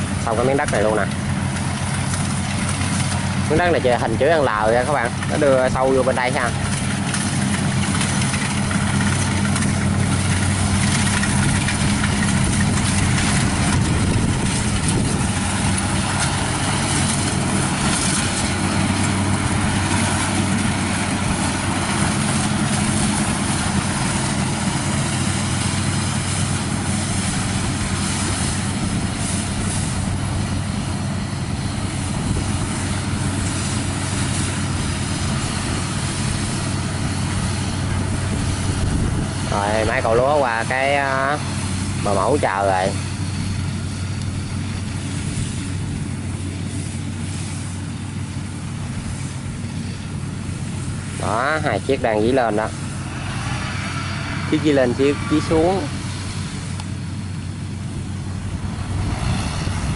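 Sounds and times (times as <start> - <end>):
broad rushing noise: 0.0 - 59.9
combine harvester engine hum: 0.0 - 59.9.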